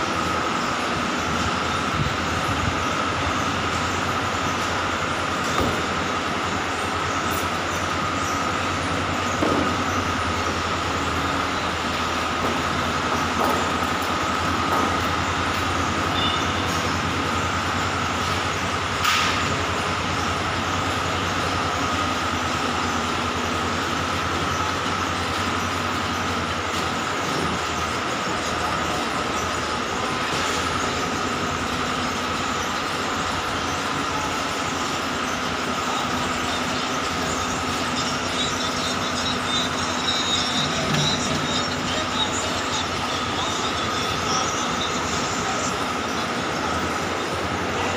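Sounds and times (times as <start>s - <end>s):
low mechanical hum: 0.0s - 47.9s
machine high whine: 0.0s - 47.9s.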